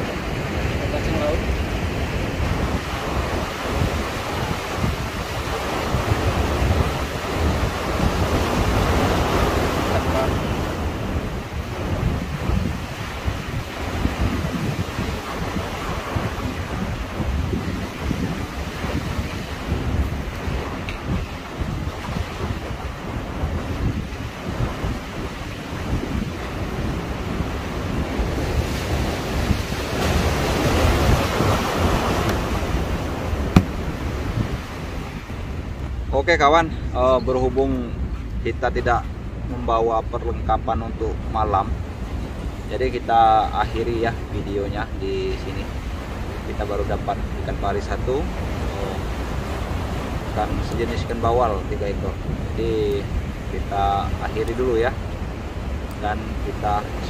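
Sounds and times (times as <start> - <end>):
waves rushing at shore: 0.0 - 57.0
wind buffeting microphone: 0.0 - 57.0.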